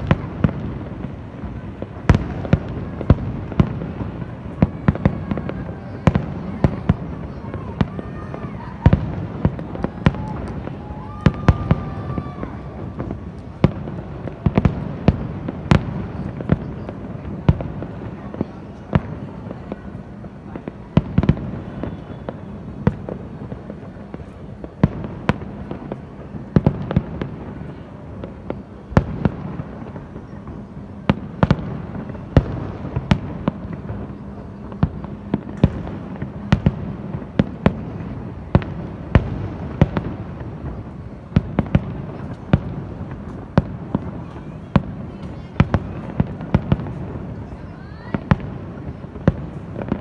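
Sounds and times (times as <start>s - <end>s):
fireworks bangs: 0.0s - 50.0s
rumble of distant explosions: 0.0s - 50.0s.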